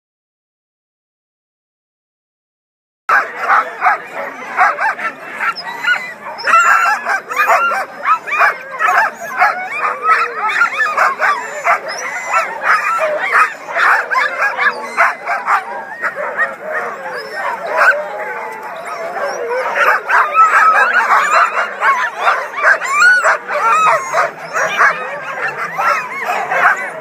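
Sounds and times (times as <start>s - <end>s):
dogs barking and yipping: 3.1s - 27.0s.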